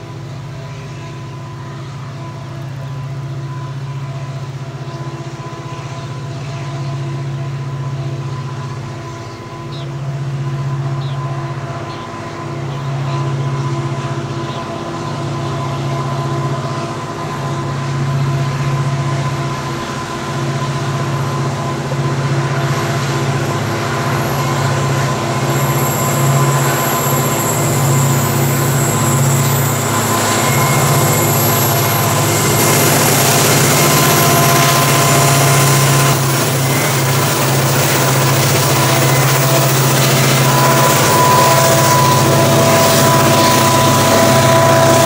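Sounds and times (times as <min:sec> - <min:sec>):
diesel locomotive engines droning: 0:00.0 - 0:45.0.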